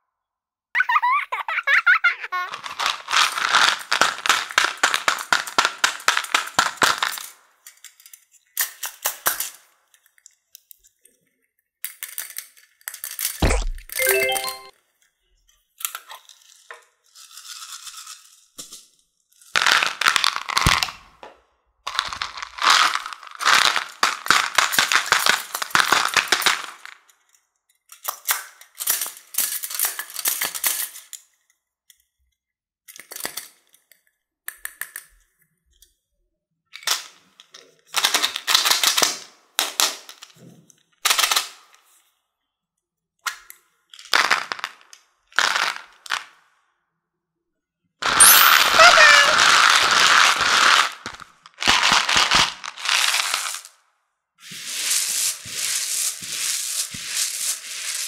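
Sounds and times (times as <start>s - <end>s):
candies clattering in plastic tubs: 1.8s - 10.8s, 11.8s - 14.7s, 15.8s - 21.3s, 21.9s - 31.6s, 32.9s - 35.2s, 36.8s - 42.0s, 43.3s - 46.6s, 48.0s - 53.8s, 54.4s - 58.0s.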